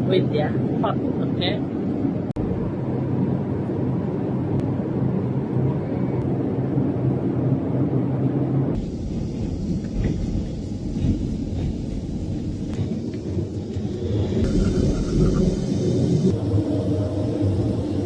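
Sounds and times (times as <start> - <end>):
airliner cabin rumble: 1.6 - 18.0.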